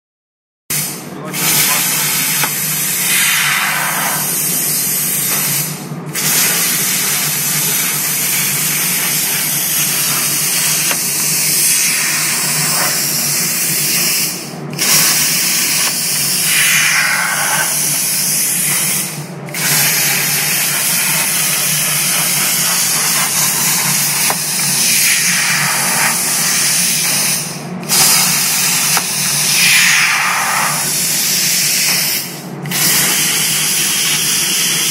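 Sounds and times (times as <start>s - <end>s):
plasma torch arc hissing: 0.7s - 34.9s.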